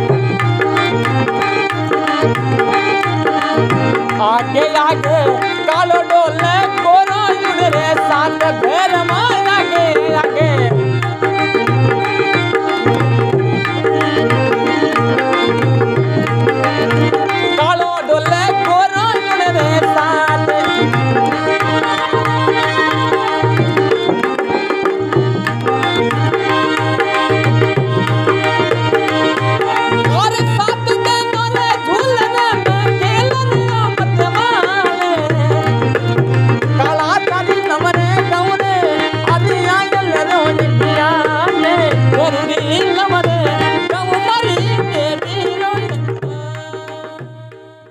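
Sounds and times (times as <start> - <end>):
wavering melodic lead: 0.0 - 46.3
held chords: 0.0 - 47.4
hand drum rhythm: 0.0 - 47.9.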